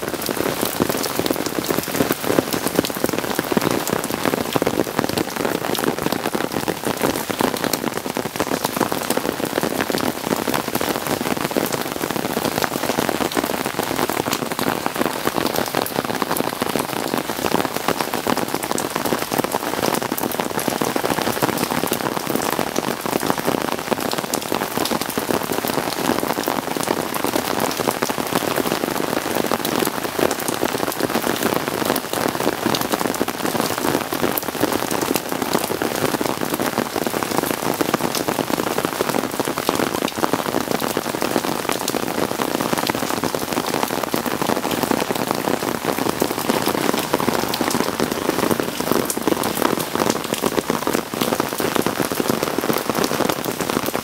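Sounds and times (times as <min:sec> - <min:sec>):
rain drumming on an umbrella: 0:00.0 - 0:54.0
rain on foliage: 0:00.0 - 0:54.0.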